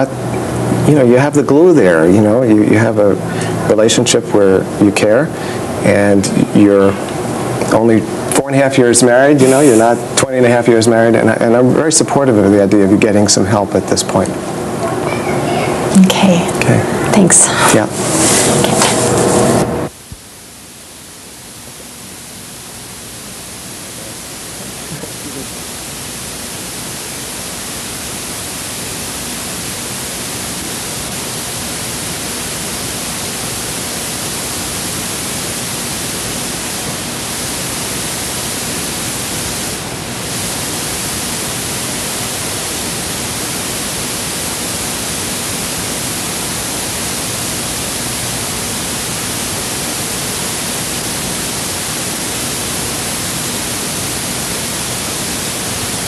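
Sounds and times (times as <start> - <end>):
tape hiss: 0.0 - 56.0.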